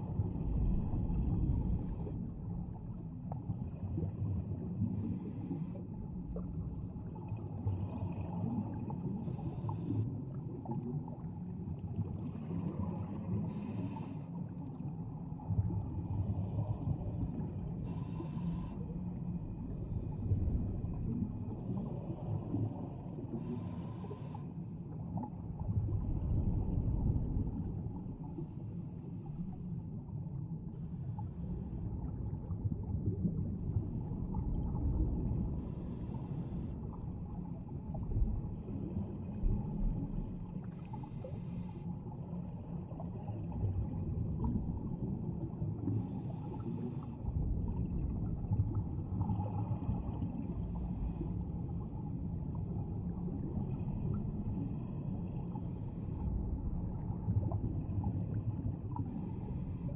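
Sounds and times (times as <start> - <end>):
deep underwater rumble: 0.0 - 59.9.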